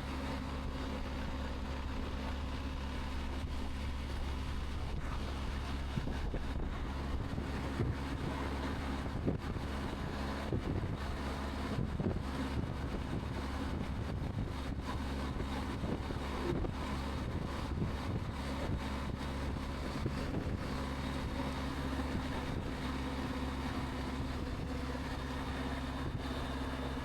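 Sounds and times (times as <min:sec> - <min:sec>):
low engine hum: 0:00.0 - 0:27.0
steady rush of wind: 0:00.0 - 0:27.0.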